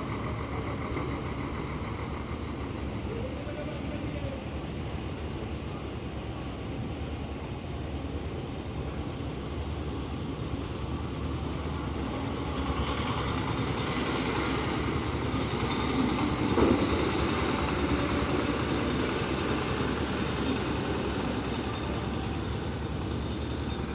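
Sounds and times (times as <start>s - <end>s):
heavy engine rumbling: 0.0s - 23.9s.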